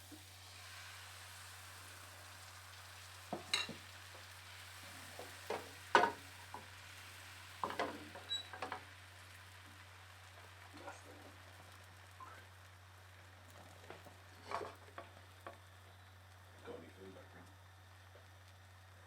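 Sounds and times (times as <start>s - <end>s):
batter sizzling in a pan: 0.0s - 19.0s.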